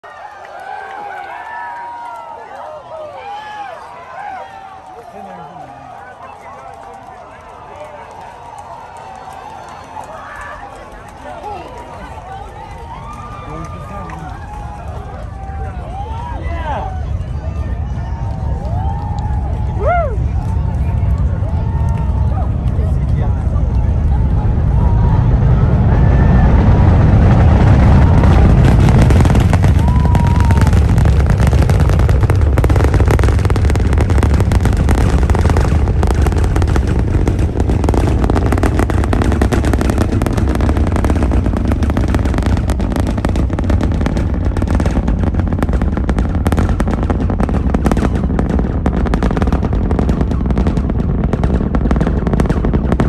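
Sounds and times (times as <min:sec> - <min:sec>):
rocket engines rumbling: 0:03.2 - 0:53.0
rocket exhaust crackling: 0:04.4 - 0:53.0.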